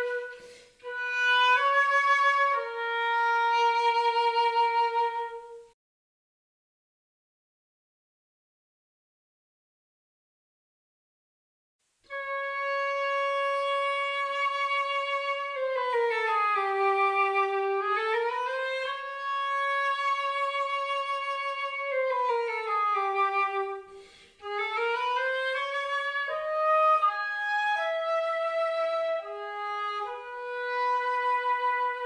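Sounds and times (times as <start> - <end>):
solo flute melody: 0.0 - 5.8, 12.1 - 32.0.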